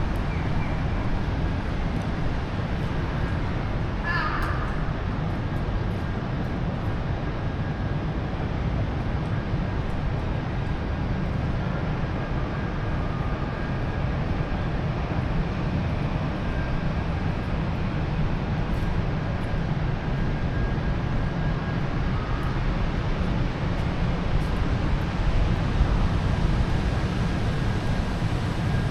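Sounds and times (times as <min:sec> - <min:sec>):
low rumble of traffic: 0:00.0 - 0:28.9.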